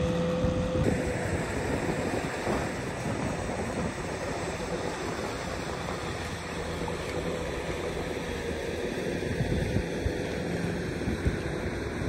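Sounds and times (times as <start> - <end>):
low engine hum: 0.0 - 12.0
wind on microphone: 0.0 - 12.0.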